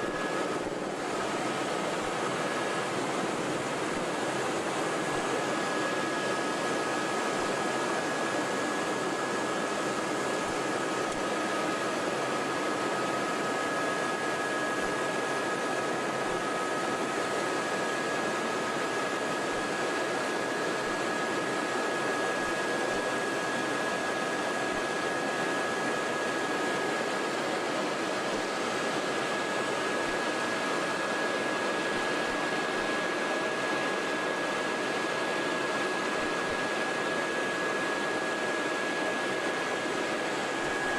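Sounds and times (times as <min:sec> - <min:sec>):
helicopter cabin drone: 0:00.0 - 0:40.9.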